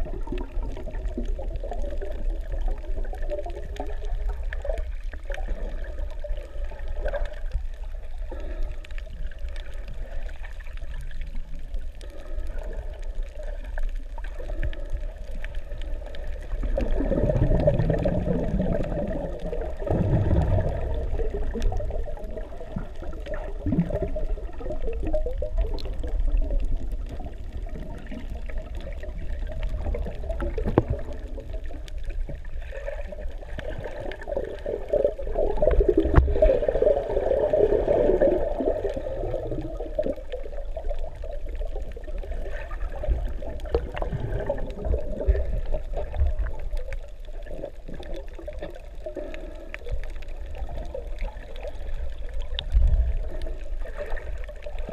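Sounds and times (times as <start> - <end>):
muffled underwater rushing: 0.0 - 54.9.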